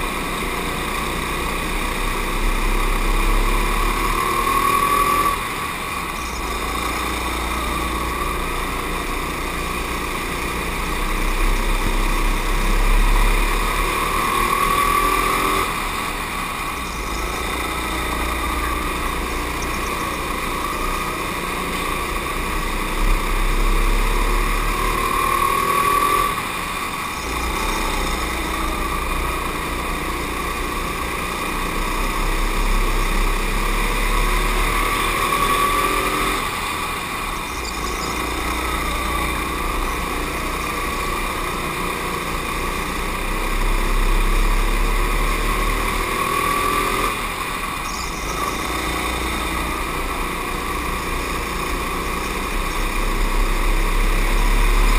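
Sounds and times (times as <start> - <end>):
go-kart engine accelerating: 0.0 - 54.9.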